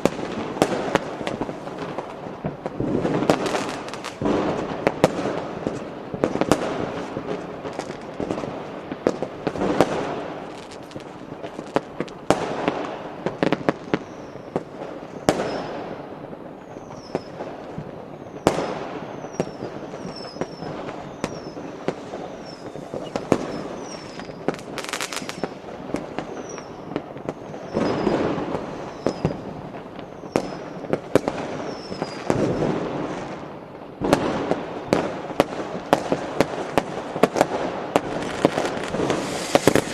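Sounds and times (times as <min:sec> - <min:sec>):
rolling firework booms: 0:00.0 - 0:16.1, 0:17.1 - 0:33.4, 0:34.0 - 0:39.9
firecrackers cracking and popping: 0:00.0 - 0:39.9.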